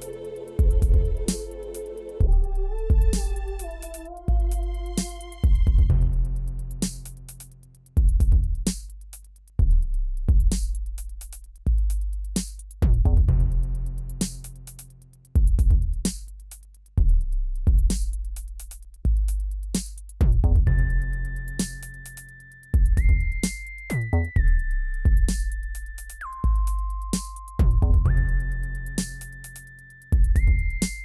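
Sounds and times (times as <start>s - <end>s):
electronic music with drum machine: 0.0s - 17.0s, 17.6s - 31.0s.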